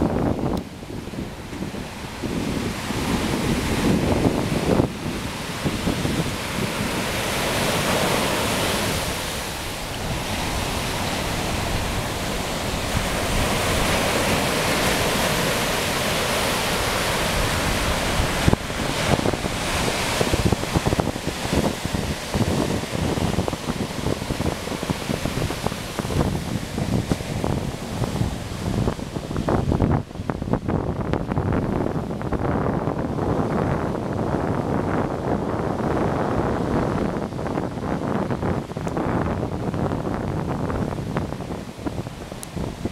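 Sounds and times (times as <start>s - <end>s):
ocean surf breaking: 0.0s - 42.9s
wind buffeting microphone: 0.0s - 42.9s.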